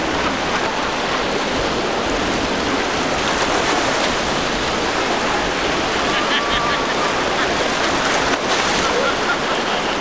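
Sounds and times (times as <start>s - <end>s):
boat hull cutting through waves: 0.0s - 10.0s
breaking surf: 0.0s - 10.0s.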